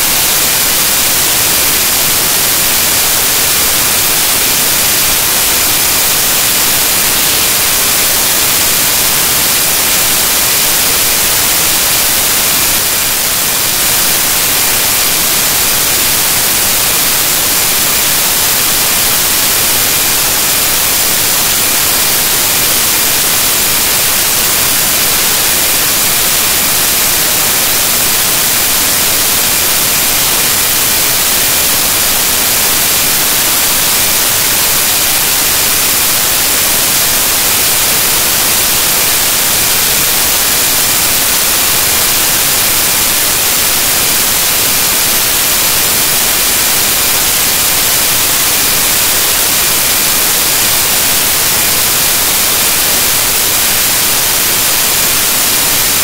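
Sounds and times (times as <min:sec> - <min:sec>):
loud static hiss: 0:00.0 - 0:56.0.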